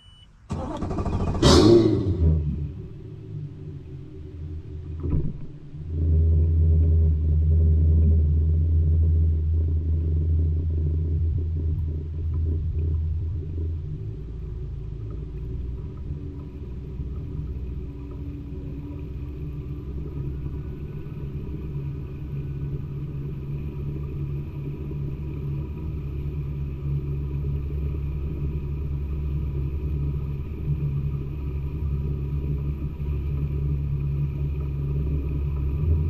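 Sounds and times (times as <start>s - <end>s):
motor rumbling: 0.5s - 36.0s.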